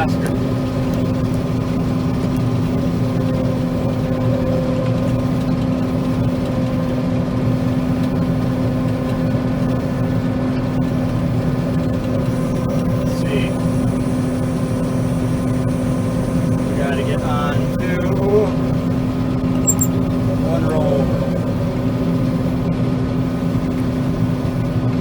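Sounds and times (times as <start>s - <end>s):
combine harvester drone: 0.0s - 25.0s.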